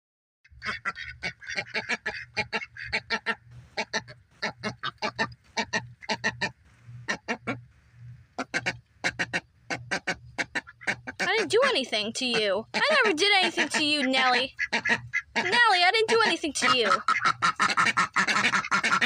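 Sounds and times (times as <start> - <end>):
duck making harsh calls: 0.5 - 19.0.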